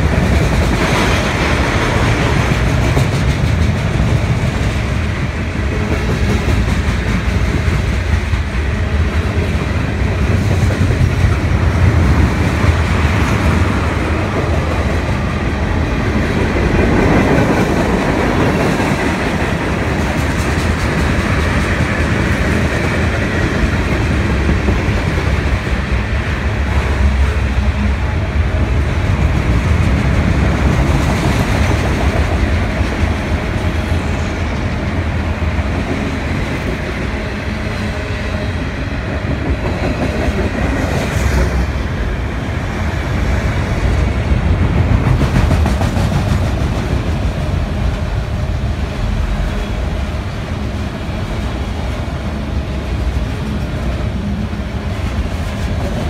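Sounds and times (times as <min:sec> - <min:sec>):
steel wheels running on rails: 0:00.0 - 0:56.0.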